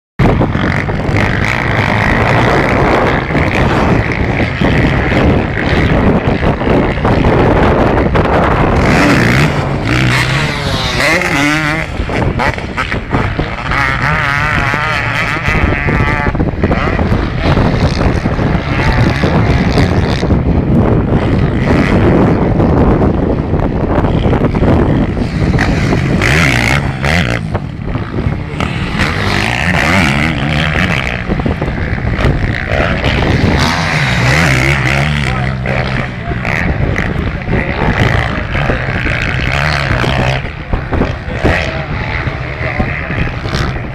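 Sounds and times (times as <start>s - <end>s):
motocross engines revving: 0.2s - 43.9s.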